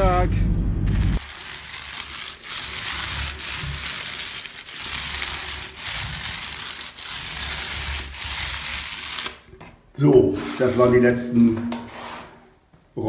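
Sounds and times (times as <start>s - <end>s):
paint roller rolling on wall: 1.2s - 12.6s.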